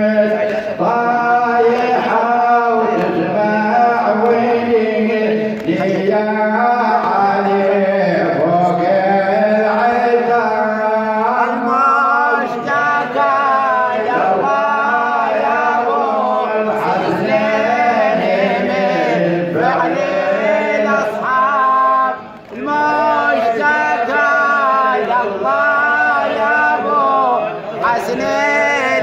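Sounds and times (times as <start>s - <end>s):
man chanting a lament: 0.0s - 29.0s.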